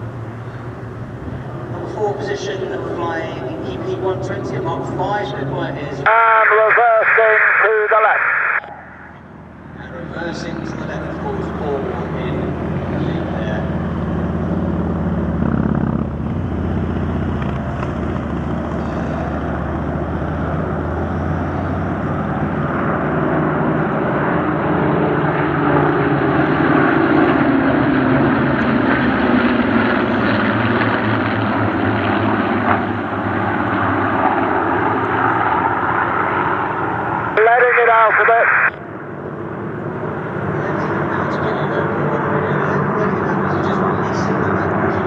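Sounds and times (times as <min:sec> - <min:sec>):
propeller planes flying past: 0:00.0 - 0:45.0.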